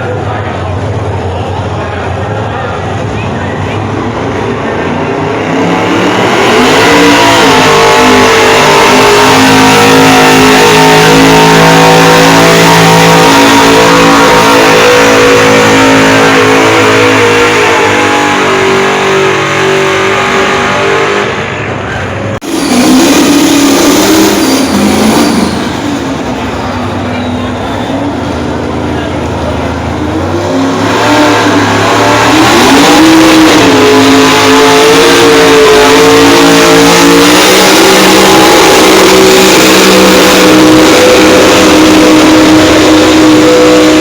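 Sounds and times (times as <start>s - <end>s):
engine revving: 0.0s - 44.0s
truck engine at full throttle: 0.0s - 44.0s.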